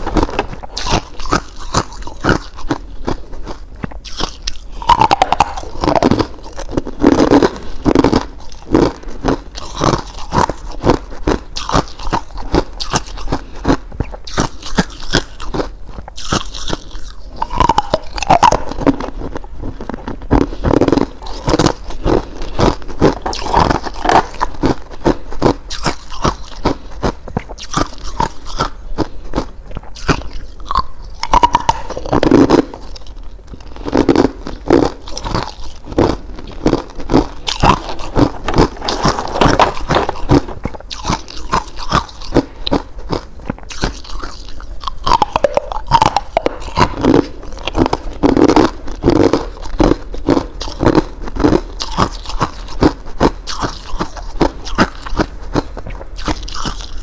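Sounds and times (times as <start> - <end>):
ice crunching between teeth: 0.0 - 57.0.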